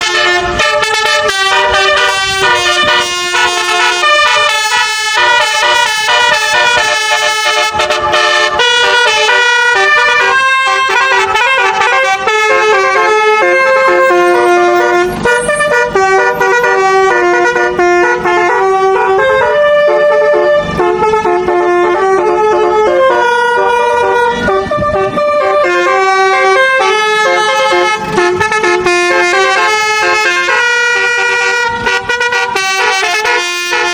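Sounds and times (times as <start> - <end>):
musical horn playing melody: 0.0 - 33.9.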